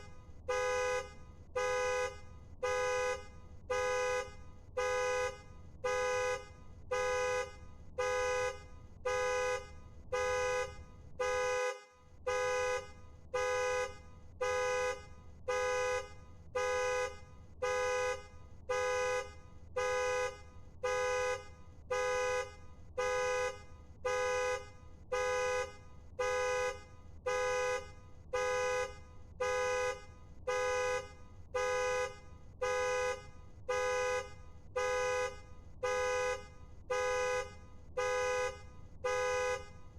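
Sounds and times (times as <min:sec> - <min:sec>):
car horn honking: 0:00.0 - 0:39.9.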